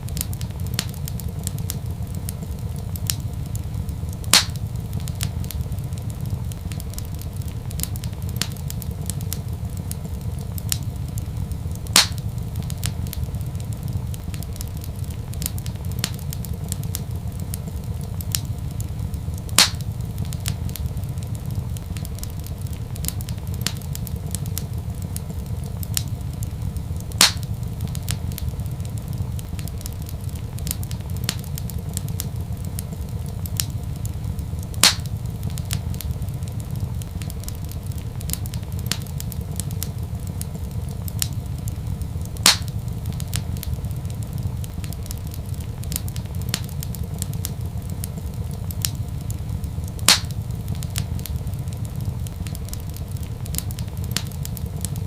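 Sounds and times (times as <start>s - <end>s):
sharp fire pops: 0.0s - 55.0s
wood fire crackling: 0.0s - 55.0s.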